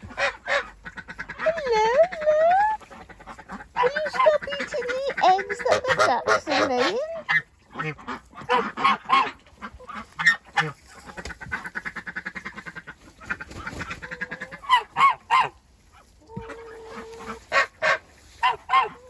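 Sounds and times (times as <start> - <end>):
ducks quacking: 0.0 - 19.0
geese honking: 0.0 - 19.0.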